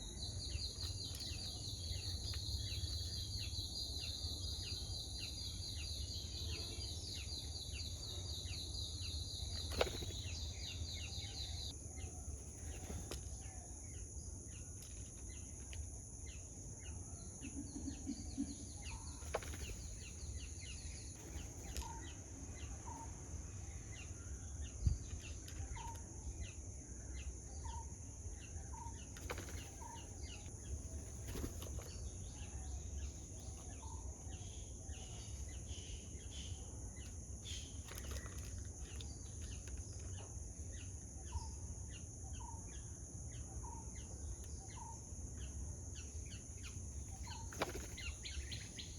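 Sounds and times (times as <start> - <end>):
rapid pulsing insect trill: 0.0 - 48.9.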